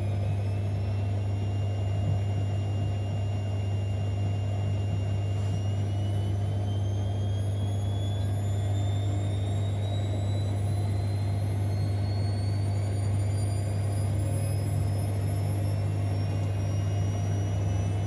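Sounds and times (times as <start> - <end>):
washing machine spinning up: 0.0 - 18.0.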